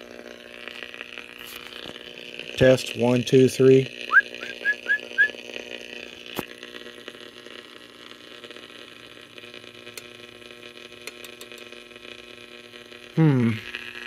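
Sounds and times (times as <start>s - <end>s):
radio hum and hiss: 0.0s - 14.0s.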